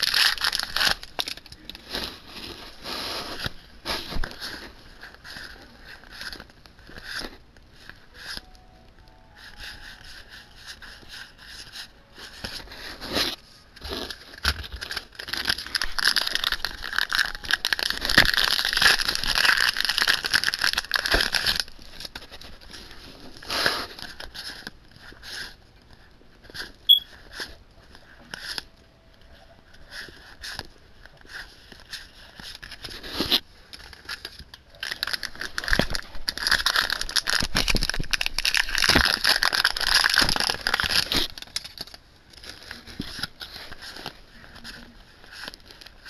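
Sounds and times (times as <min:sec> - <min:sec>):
foil wrapper crinkling and tearing: 0:00.0 - 0:08.5, 0:09.4 - 0:25.6, 0:26.4 - 0:46.0.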